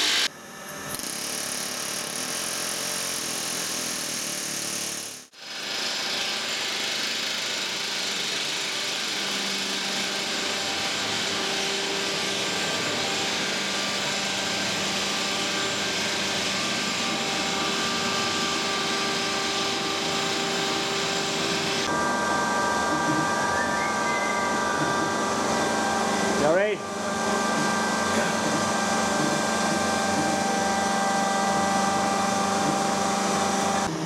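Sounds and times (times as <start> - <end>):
workshop machinery whirring: 3.1 - 34.0.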